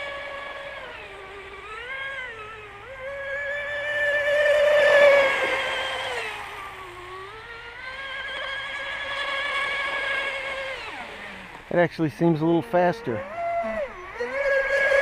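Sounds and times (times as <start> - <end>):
rc boat electric motor whining: 0.0 - 15.0.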